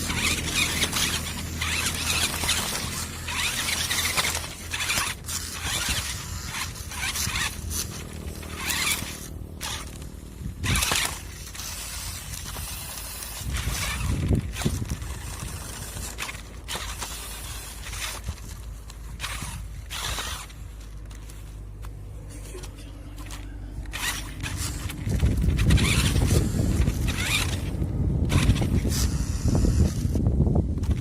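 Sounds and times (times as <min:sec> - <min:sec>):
toy truck motor hum: 0:00.0 - 0:31.0
wheels scraping and knocking: 0:00.0 - 0:31.0.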